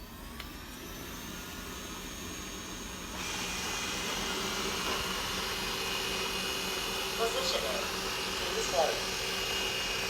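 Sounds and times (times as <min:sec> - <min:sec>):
robot vacuum whine and hiss: 0:00.1 - 0:10.0.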